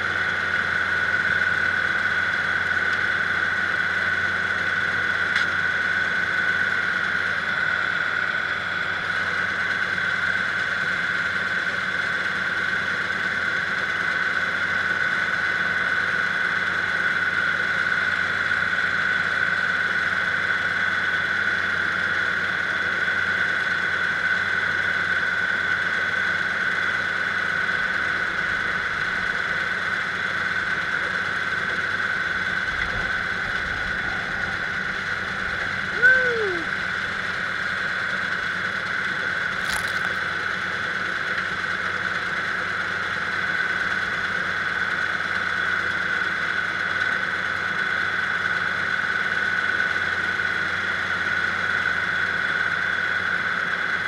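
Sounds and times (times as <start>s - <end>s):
diesel engine running: 0.0s - 54.0s
high steady whine: 0.0s - 54.0s.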